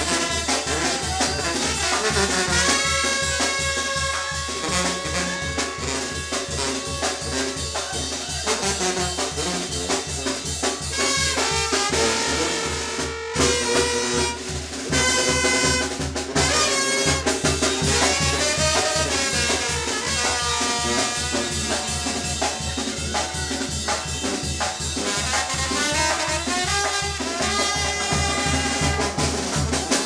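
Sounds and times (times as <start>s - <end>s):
brass band playing dance tune: 0.0s - 30.0s.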